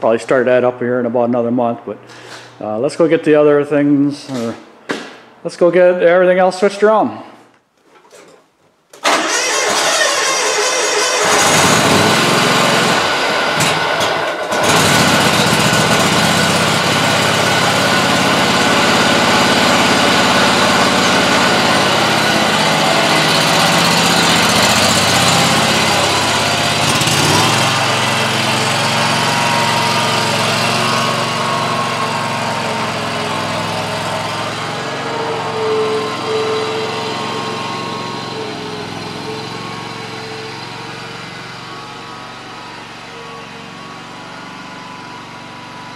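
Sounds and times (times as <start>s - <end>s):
mower engine running: 9.0s - 45.9s.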